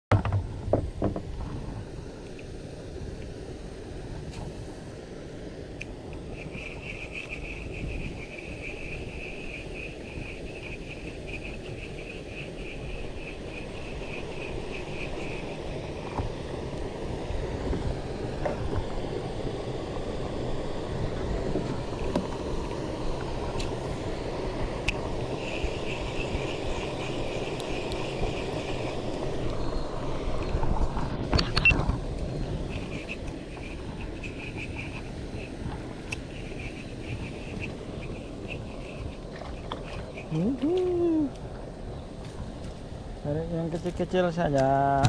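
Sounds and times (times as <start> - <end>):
insects chirping in pulsing trill: 4.6 - 45.0.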